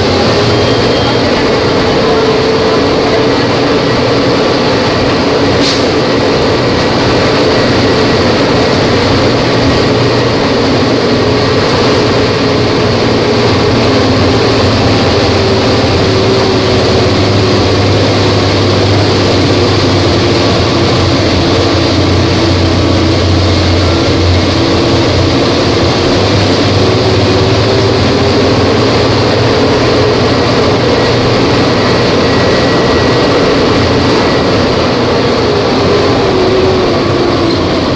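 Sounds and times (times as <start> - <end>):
bus engine running: 0.0 - 37.9.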